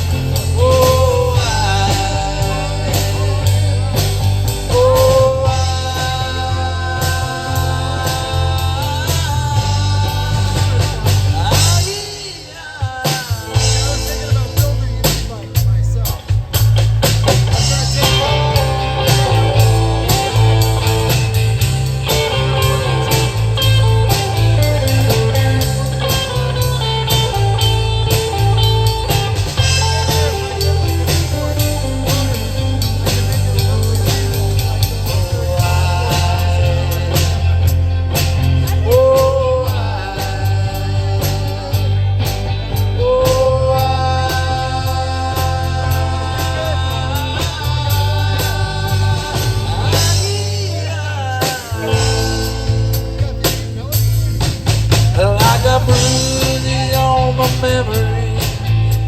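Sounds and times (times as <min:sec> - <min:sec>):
lead guitar with bent notes: 0:00.0 - 0:59.0
live band playing: 0:00.0 - 0:59.0.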